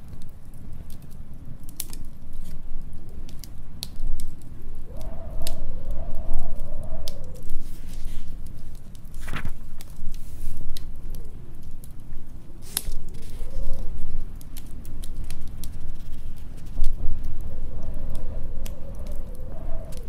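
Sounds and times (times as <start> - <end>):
log fire crackling and popping: 0.0 - 20.0
storm wind howling: 2.8 - 20.0.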